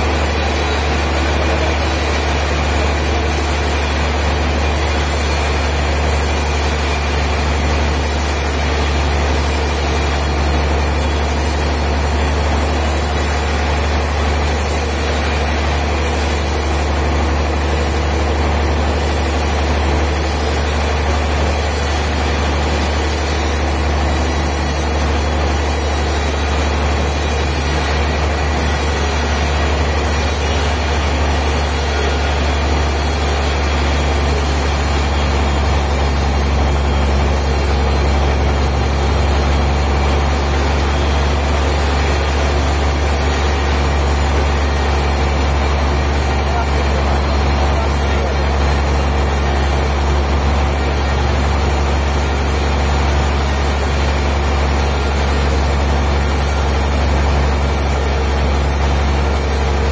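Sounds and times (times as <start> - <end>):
heavy engine running: 0.0 - 59.9.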